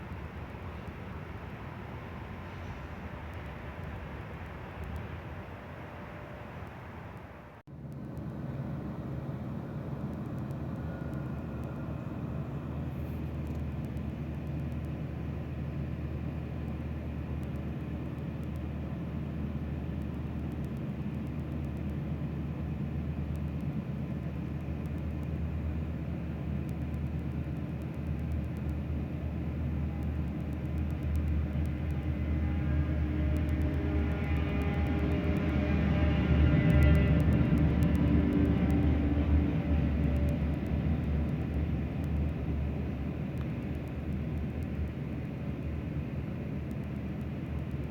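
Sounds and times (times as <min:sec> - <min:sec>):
diesel locomotive engine drone: 0:00.0 - 0:47.9.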